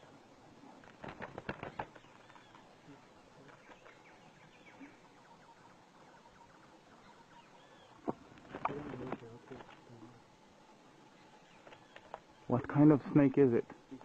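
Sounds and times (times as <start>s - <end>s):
faint bird chirps: 0.0s - 12.9s.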